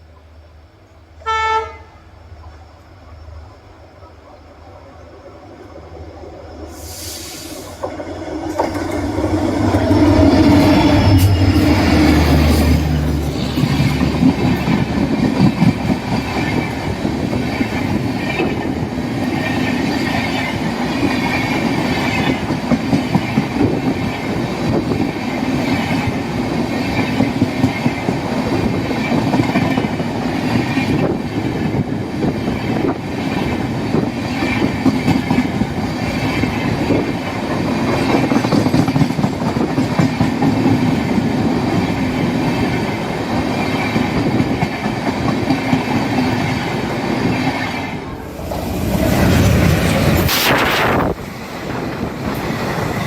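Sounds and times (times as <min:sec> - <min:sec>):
train wheels clattering over rails: 0:06.8 - 0:53.0.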